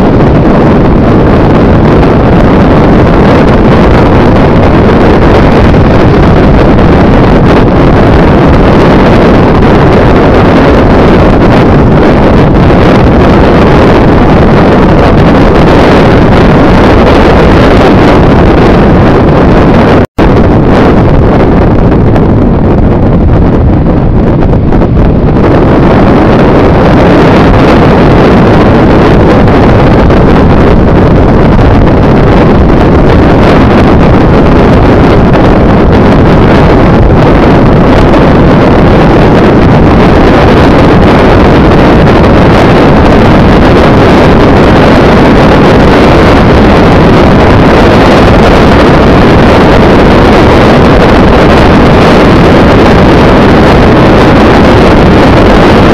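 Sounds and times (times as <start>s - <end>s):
motorcycle engine and road noise: 0.0s - 55.9s
wind buffeting microphone: 0.0s - 55.9s.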